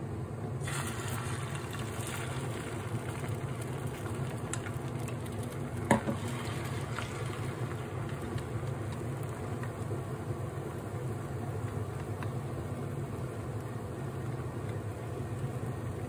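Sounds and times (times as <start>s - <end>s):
egg sizzling in a pan: 0.6s - 16.0s.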